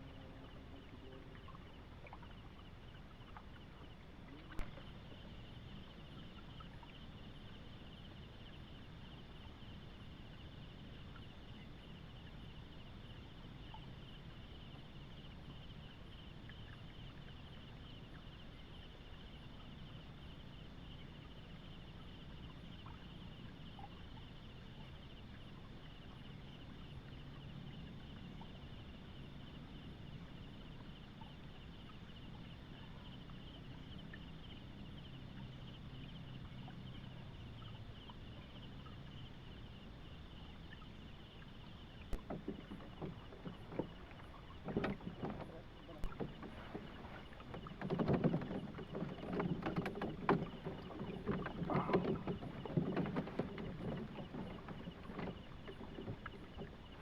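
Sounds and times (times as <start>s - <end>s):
frog chorus: 0.0s - 57.0s.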